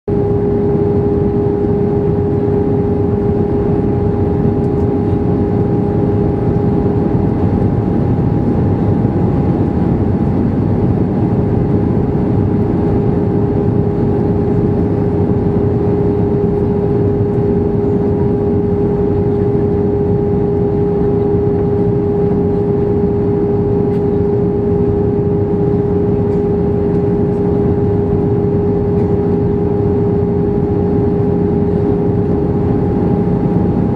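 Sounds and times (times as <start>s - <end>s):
airplane cabin engine drone: 0.1s - 33.9s.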